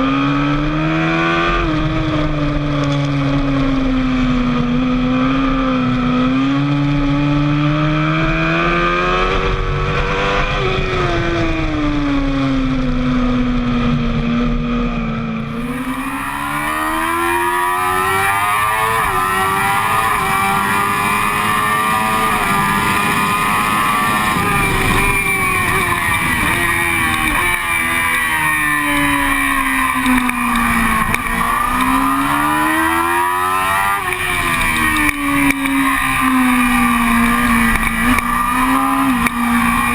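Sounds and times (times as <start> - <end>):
motorcycle engine revving at speed: 0.0 - 39.9.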